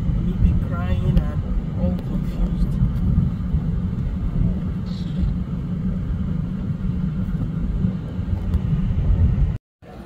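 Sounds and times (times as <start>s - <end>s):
vehicle driving rumble from inside: 0.0s - 10.0s.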